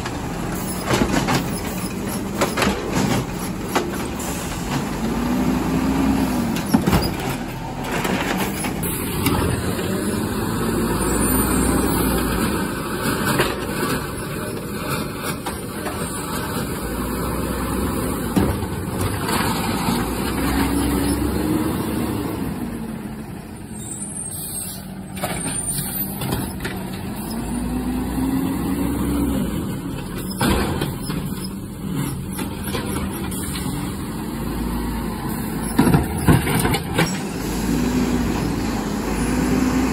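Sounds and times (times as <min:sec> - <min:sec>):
garbage truck engine revving: 0:00.0 - 0:39.9.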